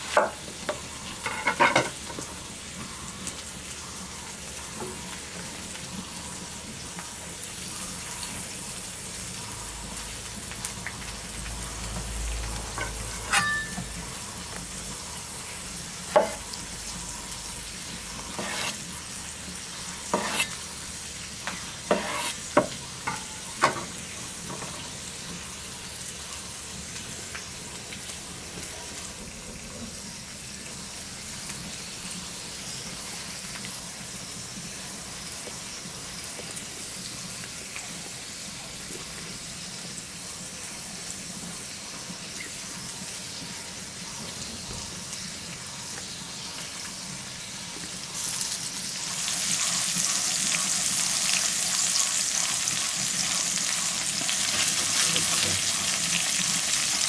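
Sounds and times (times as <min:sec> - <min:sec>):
meat sizzling on a grill plate: 0:00.0 - 0:57.0
vegetables hissing on hot plate: 0:00.0 - 0:57.0.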